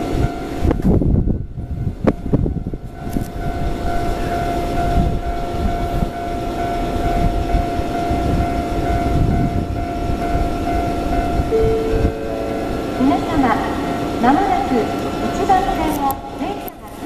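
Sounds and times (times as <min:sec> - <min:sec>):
steady high tone: 0:00.0 - 0:16.8
electric train rumble: 0:00.0 - 0:17.0.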